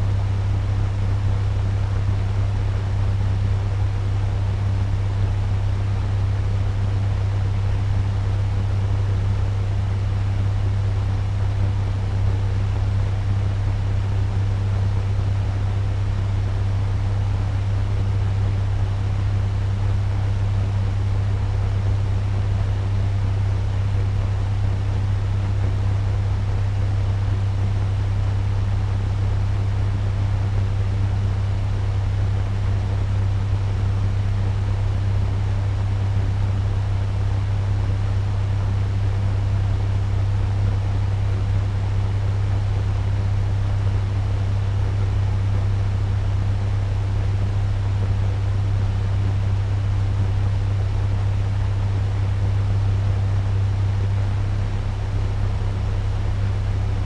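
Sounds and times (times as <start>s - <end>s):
fan air rushing: 0.0s - 57.0s
low motor hum: 0.0s - 57.0s.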